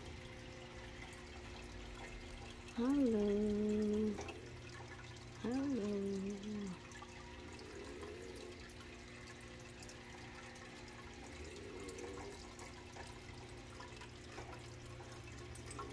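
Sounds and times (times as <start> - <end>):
low steady hum: 0.0 - 15.9
water trickling and dripping: 0.0 - 15.9.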